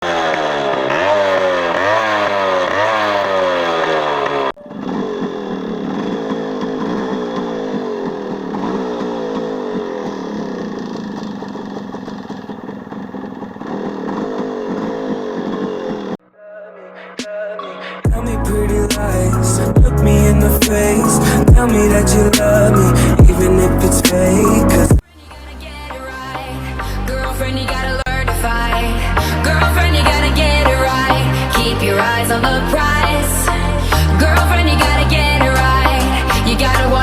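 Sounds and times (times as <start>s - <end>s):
motorcycle engine revving: 0.0s - 16.2s, 18.1s - 25.0s, 26.8s - 37.0s.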